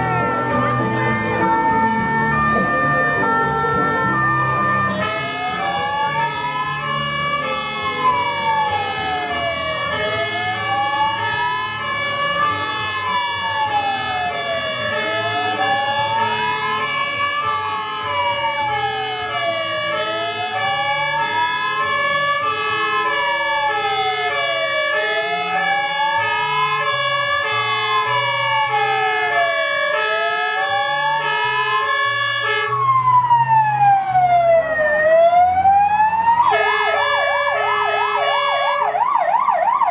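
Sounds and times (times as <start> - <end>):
fire engine siren wailing: 0.0 - 39.9.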